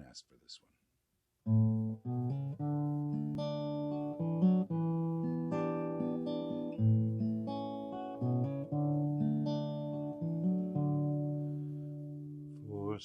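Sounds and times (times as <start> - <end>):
acoustic guitar chords: 1.5 - 13.0.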